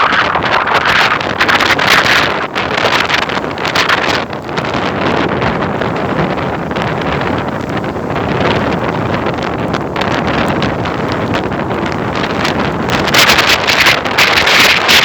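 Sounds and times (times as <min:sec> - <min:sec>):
hail falling: 0:00.0 - 0:15.0.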